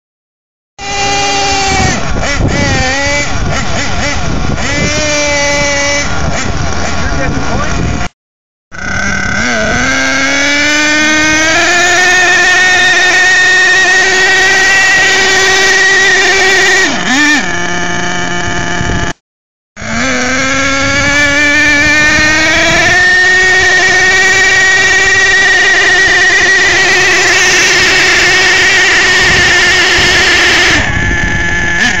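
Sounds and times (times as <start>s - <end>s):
small engine at high revs: 0.8s - 19.2s, 19.8s - 32.0s.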